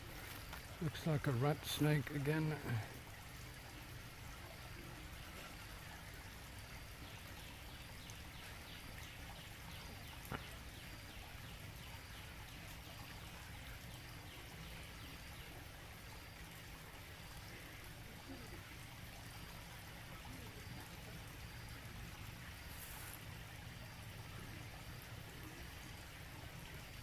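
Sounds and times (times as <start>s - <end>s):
waterfall splashing into pond: 0.0s - 27.0s.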